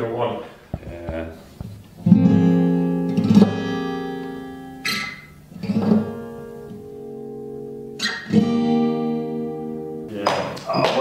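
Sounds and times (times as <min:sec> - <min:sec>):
acoustic guitar chords ringing: 0:01.4 - 0:10.6.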